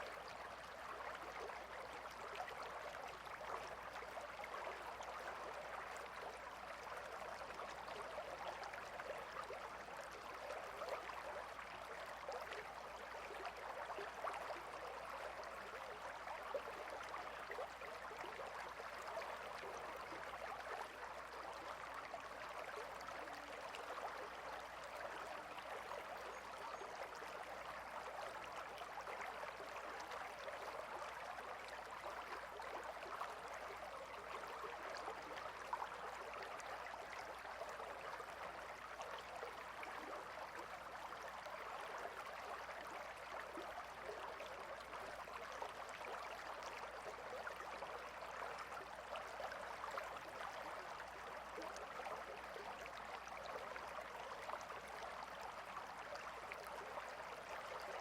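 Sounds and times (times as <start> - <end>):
gentle river flowing: 0.0 - 58.0.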